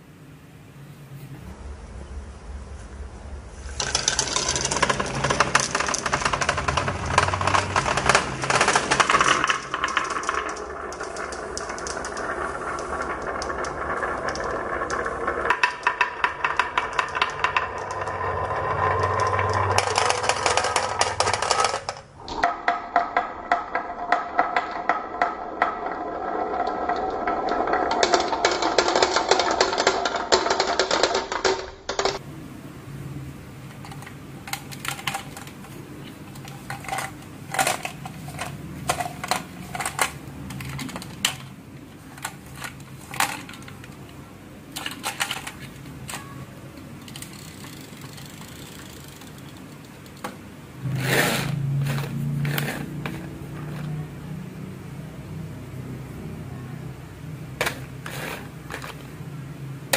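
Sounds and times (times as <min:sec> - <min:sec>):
marbles rolling down marble run: 0:03.6 - 0:32.2, 0:33.8 - 0:54.7, 0:57.5 - 0:59.9.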